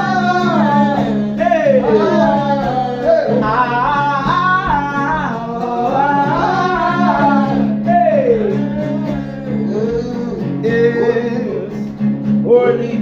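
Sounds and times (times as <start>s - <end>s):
person singing wordless phrases: 0.0s - 13.0s.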